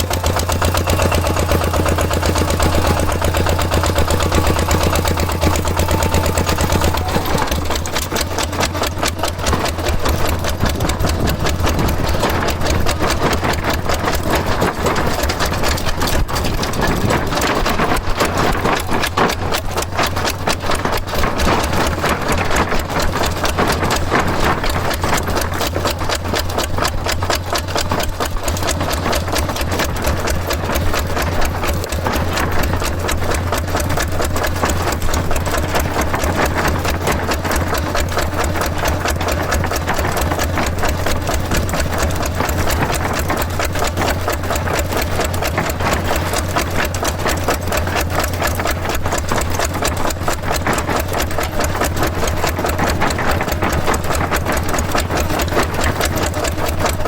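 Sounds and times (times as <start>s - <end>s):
small engine chugging: 0.0s - 57.0s.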